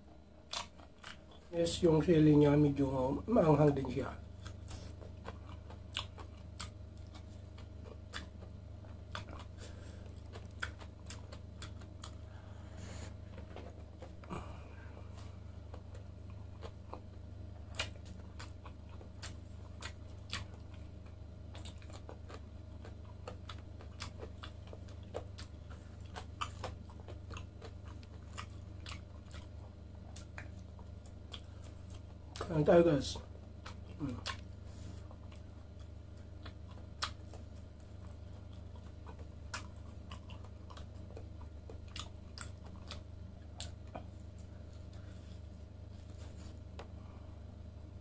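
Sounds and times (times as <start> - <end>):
steady low hum: 0.0 - 48.0
wet chewing clicks and smacks: 0.1 - 2.0, 2.8 - 12.5, 13.1 - 14.4, 15.1 - 47.0.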